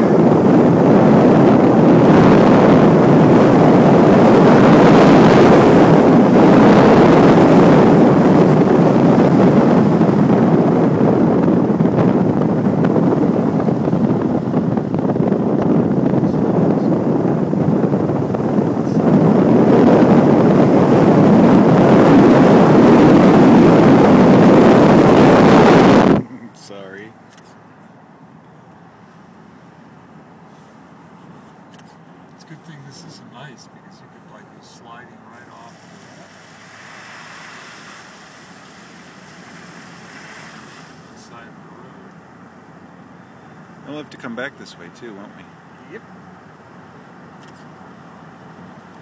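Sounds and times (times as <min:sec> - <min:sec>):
wind rushing over microphone: 0:00.0 - 0:26.8, 0:32.6 - 0:49.0.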